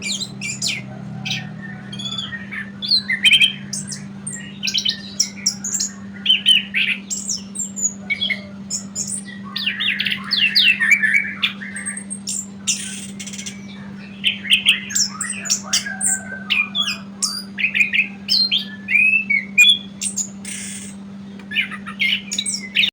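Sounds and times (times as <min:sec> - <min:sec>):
songbird singing: 0:00.0 - 0:22.9
steady low hum: 0:00.0 - 0:22.9.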